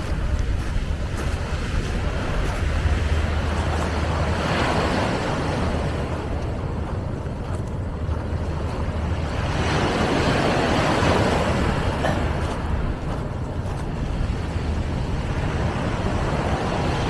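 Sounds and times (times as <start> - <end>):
broad rush of noise: 0.0 - 17.0
wind buffeting microphone: 0.0 - 17.0.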